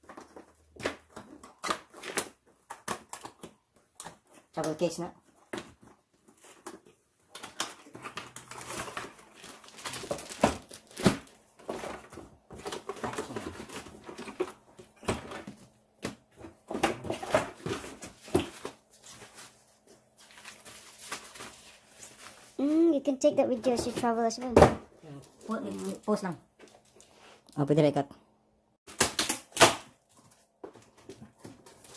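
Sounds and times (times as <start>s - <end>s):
rustling cardboard and plastic wrapping: 0.0s - 27.4s, 28.9s - 31.9s.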